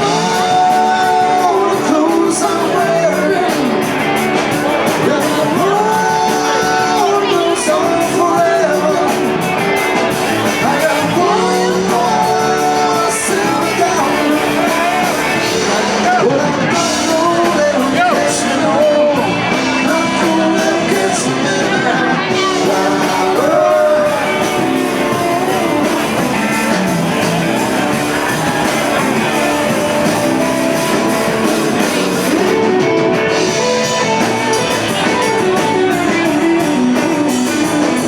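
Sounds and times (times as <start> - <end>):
guitar: 0.0 - 38.0
live rock band playing: 0.0 - 38.0
person singing: 0.0 - 38.0.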